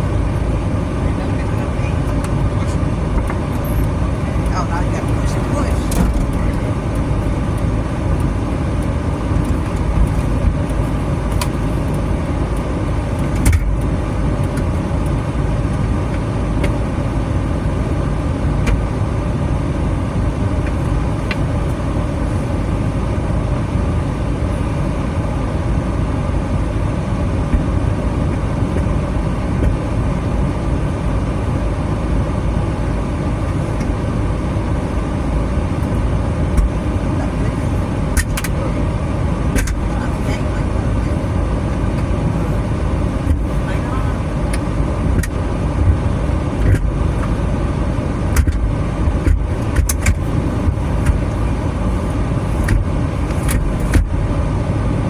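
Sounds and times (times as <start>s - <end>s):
vehicle cabin engine and road noise: 0.0s - 55.0s.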